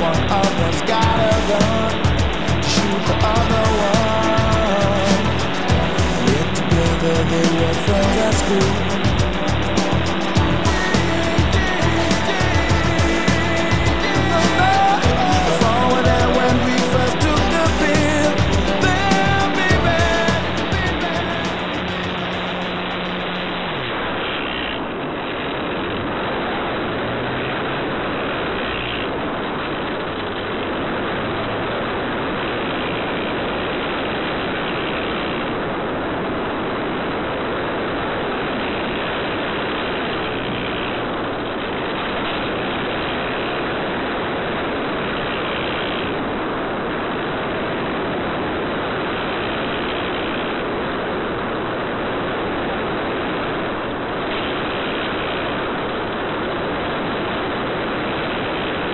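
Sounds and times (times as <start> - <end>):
rc plane propeller and airflow: 0.0 - 58.9.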